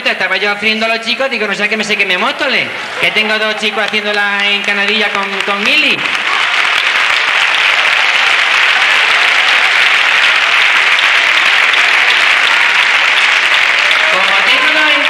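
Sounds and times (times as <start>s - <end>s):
audience applauding: 2.3s - 15.0s.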